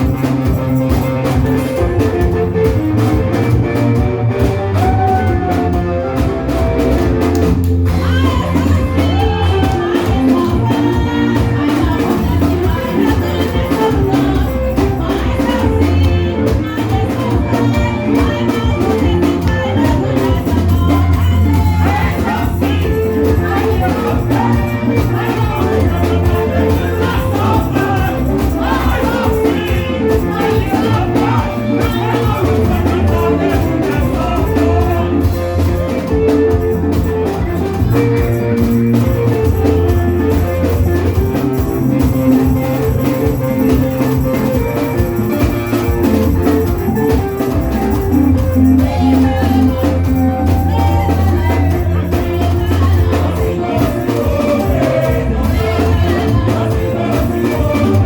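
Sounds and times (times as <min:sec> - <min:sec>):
bass line: 0:00.0 - 0:58.0
steady drum beat: 0:00.0 - 0:58.0
voices singing: 0:03.7 - 0:58.0.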